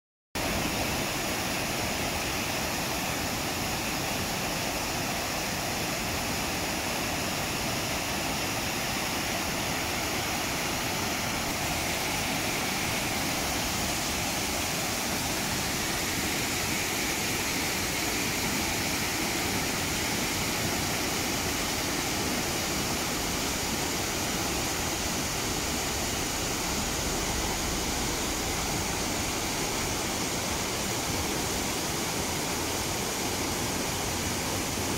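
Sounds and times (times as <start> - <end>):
water rushing over rocks: 0.4 - 34.9.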